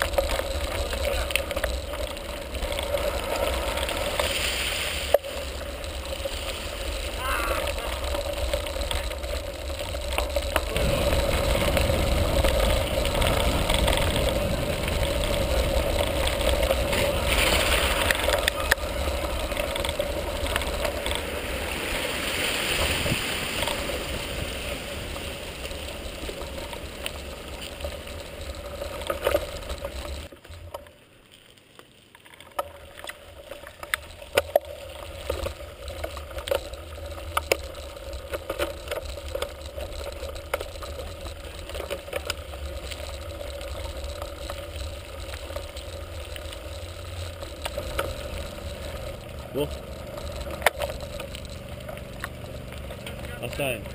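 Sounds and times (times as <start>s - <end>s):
bike knocks and rattles: 0.0s - 4.3s, 5.0s - 22.0s, 25.0s - 30.9s, 32.5s - 53.9s
tyres rumbling on gravel: 0.0s - 53.9s.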